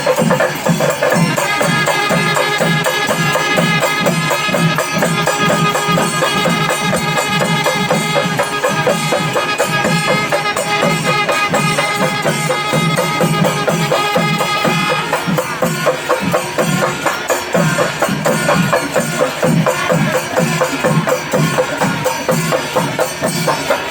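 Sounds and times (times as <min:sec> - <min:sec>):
drums beating fast rhythm: 0:00.0 - 0:23.9
wind instrument melody: 0:00.0 - 0:23.9.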